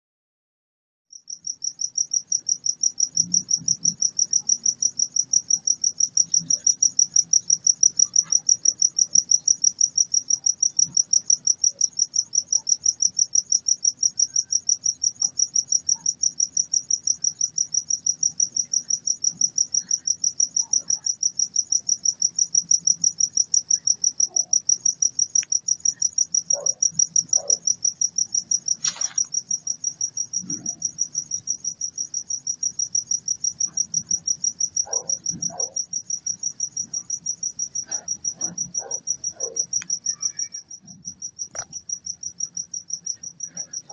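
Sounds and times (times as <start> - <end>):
insect chirping: 1.2 - 43.9.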